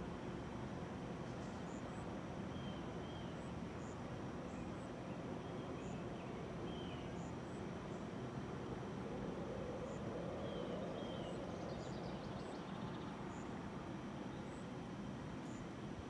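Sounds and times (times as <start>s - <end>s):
low background rumble and hiss: 0.0s - 16.0s.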